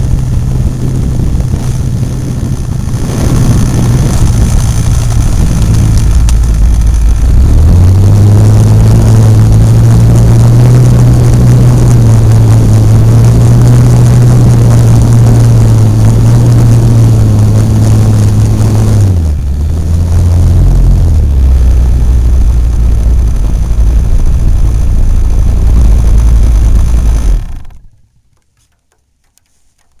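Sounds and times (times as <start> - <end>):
model airplane engine and propeller: 0.0 - 30.0.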